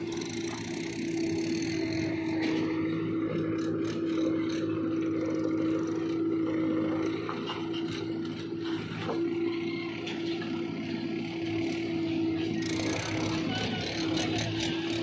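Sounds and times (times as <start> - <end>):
diesel engines droning: 0.0 - 15.0
steady whining tone: 0.0 - 15.0.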